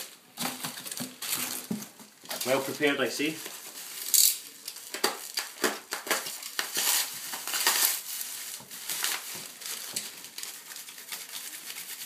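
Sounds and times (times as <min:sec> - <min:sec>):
plastic bag and bubble wrap crinkling: 0:00.0 - 0:12.0.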